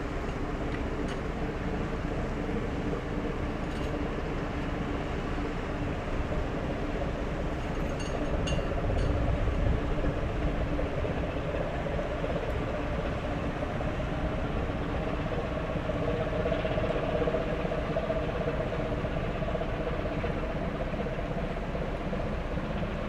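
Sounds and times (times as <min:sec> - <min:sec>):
ship engine rumble and hum: 0:00.0 - 0:23.0.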